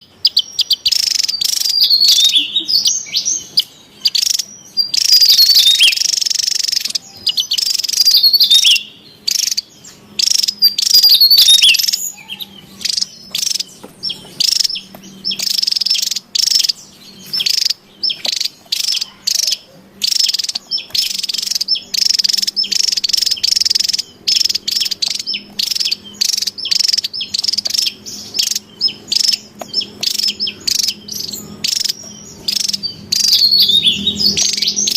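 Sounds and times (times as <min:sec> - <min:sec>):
bird rapid high chirps: 0:00.0 - 0:34.9.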